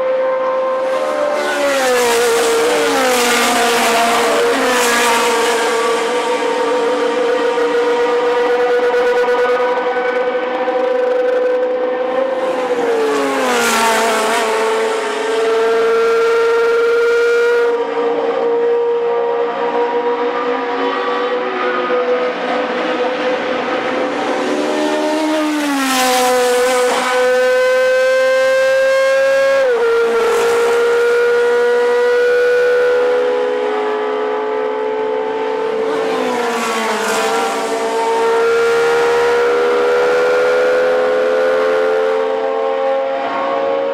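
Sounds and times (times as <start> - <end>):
racing cars passing at full throttle: 0.0 - 43.9.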